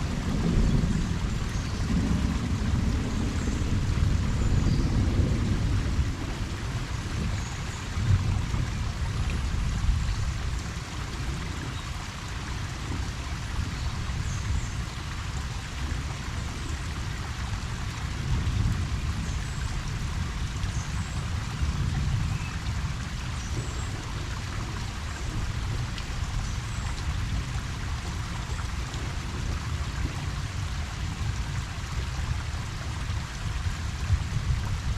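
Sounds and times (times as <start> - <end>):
rain falling on a pond: 0.0 - 34.9.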